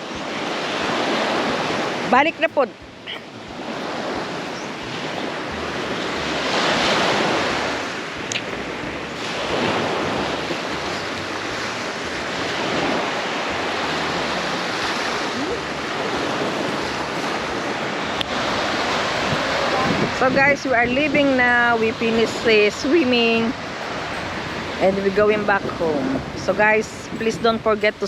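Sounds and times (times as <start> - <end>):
waves breaking on a beach: 0.0 - 28.0
wind rumbling on microphone: 0.0 - 28.0.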